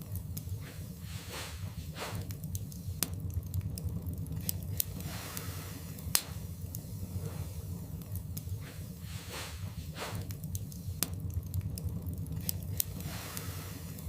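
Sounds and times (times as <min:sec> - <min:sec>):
low fire rumble: 0:00.0 - 0:14.0
wood fire crackling: 0:00.0 - 0:14.0.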